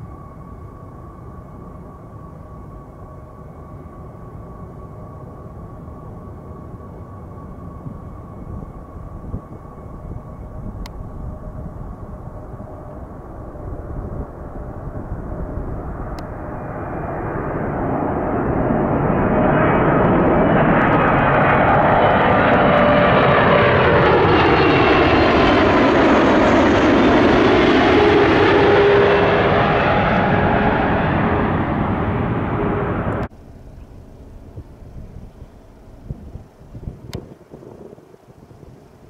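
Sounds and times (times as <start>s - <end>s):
whining jet engine tones: 0.0s - 38.2s
jet plane flying overhead: 0.0s - 39.0s.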